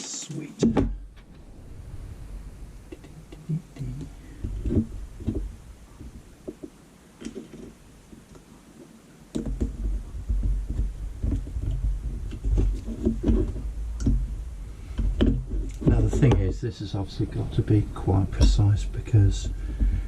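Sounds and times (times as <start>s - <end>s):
low rumble: 0.9s - 8.3s, 9.6s - 20.0s.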